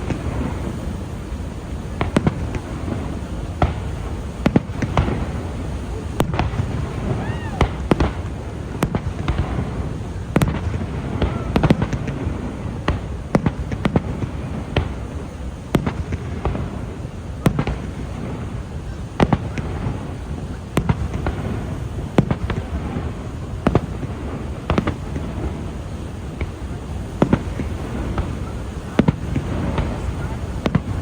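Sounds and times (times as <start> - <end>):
fireworks bangs and pops: 0.0 - 31.0.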